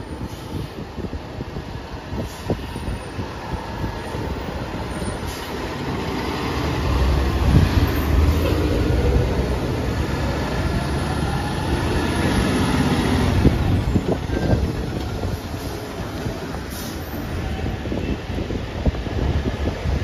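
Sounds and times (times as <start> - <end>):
diesel trucks rumbling past: 0.0 - 20.0.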